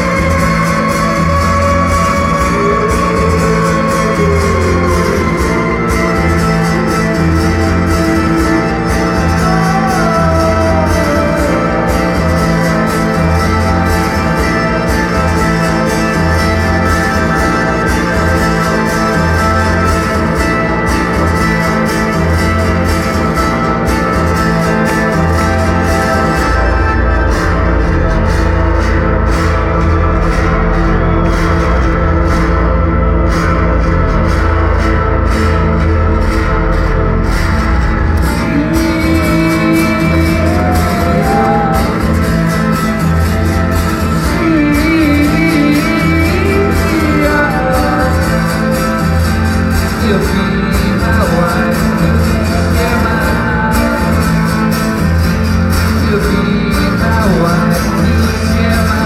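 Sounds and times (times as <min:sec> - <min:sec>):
heavy low bass line: 0:00.0 - 0:59.0
layered guitar: 0:00.0 - 0:59.0
live concert music: 0:00.0 - 0:59.0
person singing: 0:00.0 - 0:59.0.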